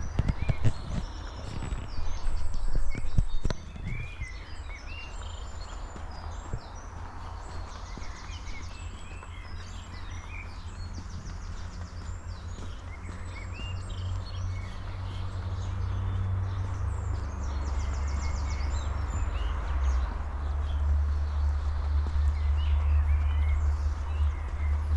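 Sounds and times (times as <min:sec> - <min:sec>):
small birds chirping: 0:00.0 - 0:24.9
steady low rumble: 0:00.0 - 0:24.9.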